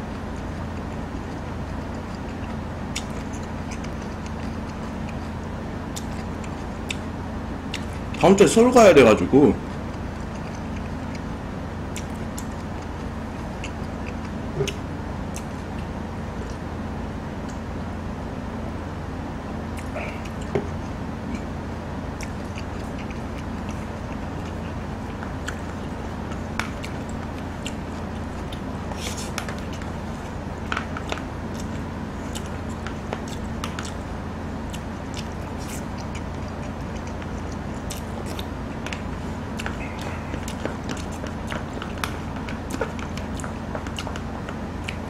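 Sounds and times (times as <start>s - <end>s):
chewing: 0.0s - 8.2s, 9.6s - 16.6s, 19.7s - 45.0s
steady low hum: 0.0s - 45.0s.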